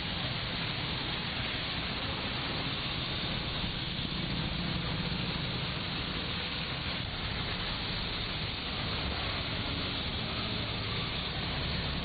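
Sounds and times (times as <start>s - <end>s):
engine rumble: 0.0s - 12.0s
heavy rain: 0.0s - 12.0s
tyres on wet road: 0.0s - 12.0s.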